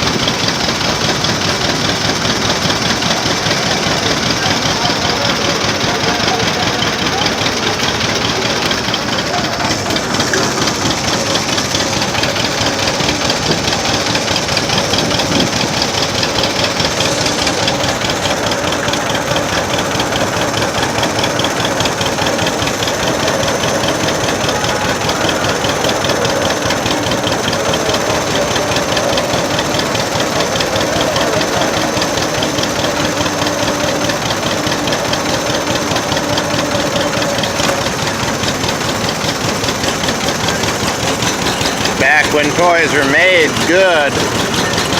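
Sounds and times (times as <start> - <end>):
old tractor engine running: 0.0 - 44.9.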